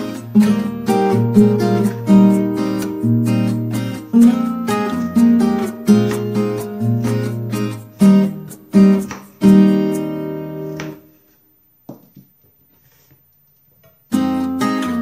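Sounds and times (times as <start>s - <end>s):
plucked acoustic guitar music: 0.0s - 11.1s, 14.1s - 15.0s.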